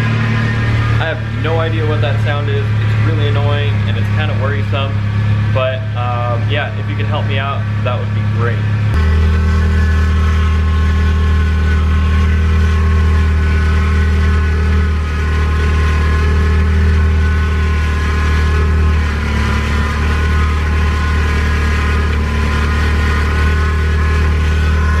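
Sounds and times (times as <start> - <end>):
car engine running: 0.0 - 25.0
high-pitched whine: 0.0 - 25.0.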